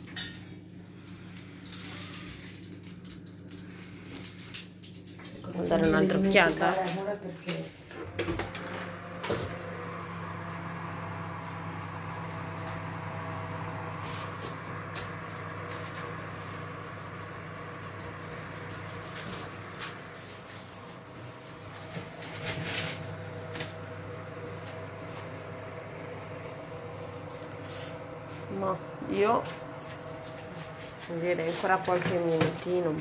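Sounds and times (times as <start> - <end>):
kitchen hum: 0.0 - 33.0.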